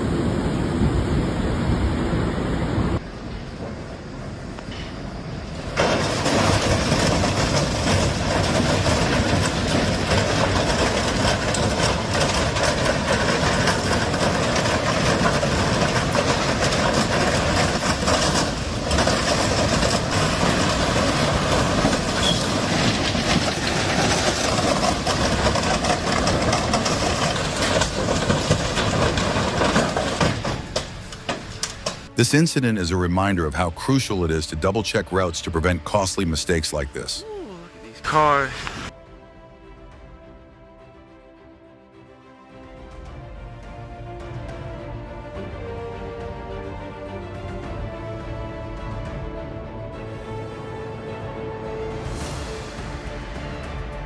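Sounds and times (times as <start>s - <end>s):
train running past: 0.0s - 54.0s.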